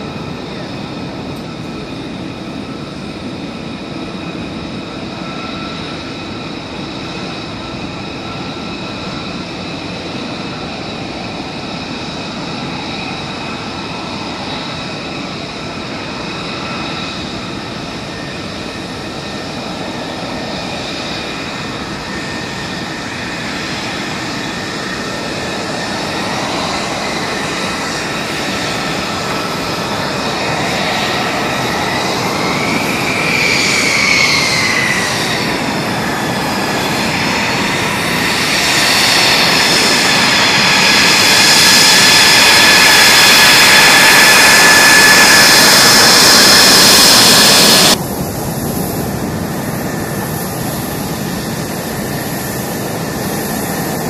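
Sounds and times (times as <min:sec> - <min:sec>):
jet engine turbine whine: 0:00.0 - 0:54.0.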